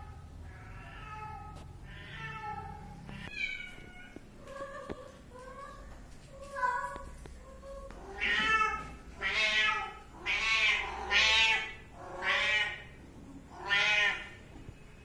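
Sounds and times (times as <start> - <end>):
young cats meowing: 0.0 - 5.8, 6.4 - 14.4.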